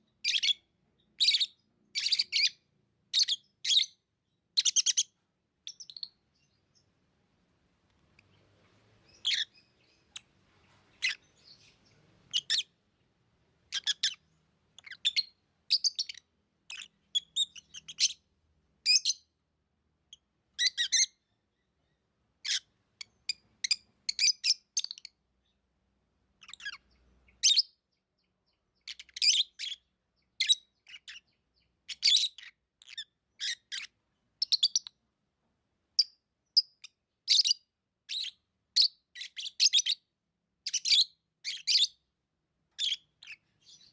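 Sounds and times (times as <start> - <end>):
lovebirds chirping: 0.0 - 19.4, 20.0 - 35.0, 35.9 - 43.9.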